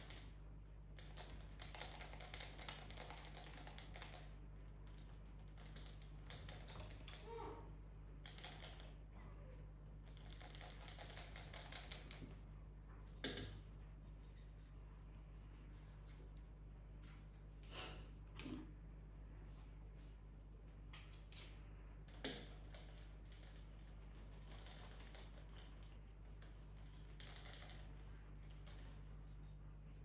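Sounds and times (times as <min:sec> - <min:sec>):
faint clicking and scratching: 0:00.0 - 0:16.5, 0:20.8 - 0:30.0.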